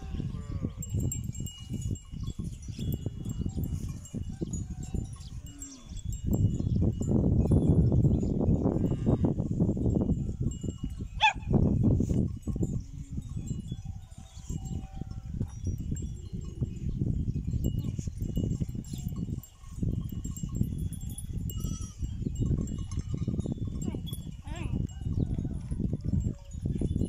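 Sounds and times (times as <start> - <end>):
cattle bells clinking: 0.0 - 27.0
wind on microphone: 0.0 - 27.0.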